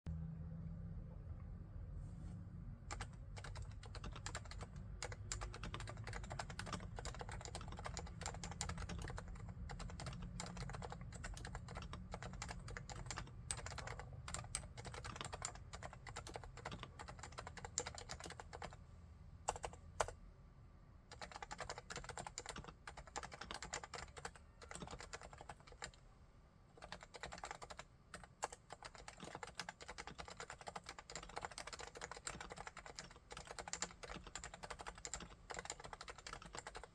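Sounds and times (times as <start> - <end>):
soft muted keyboard typing: 2.9 - 18.8, 19.5 - 20.2, 21.1 - 26.0, 26.7 - 36.9.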